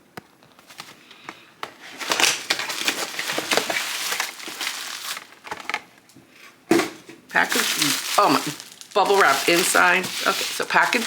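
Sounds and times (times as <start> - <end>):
packaging crinkling and rustling: 0.4 - 6.0, 6.7 - 11.0.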